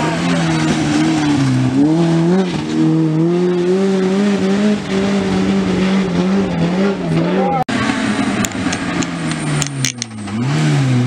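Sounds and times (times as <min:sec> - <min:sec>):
rally car engine revving hard: 0:00.0 - 0:11.0.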